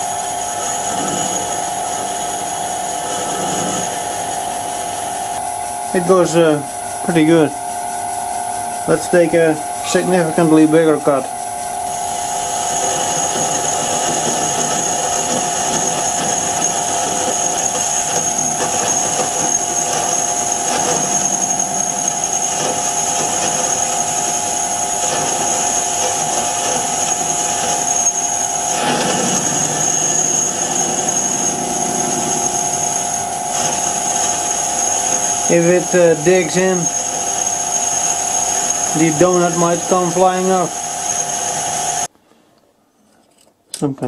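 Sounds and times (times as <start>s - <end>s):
lathe machine whine: 0.0s - 42.1s
rough metal cutting noise: 0.0s - 42.1s.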